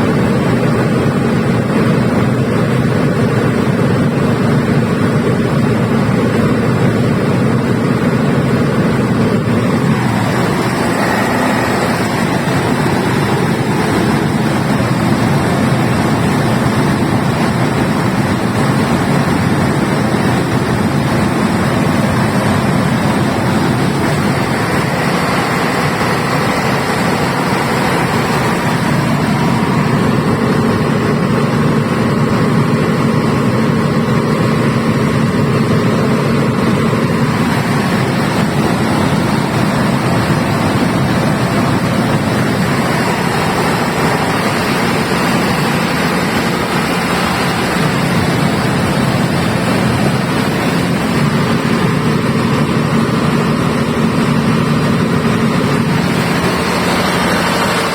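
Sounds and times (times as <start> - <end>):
diesel generator running: 0.0 - 57.9.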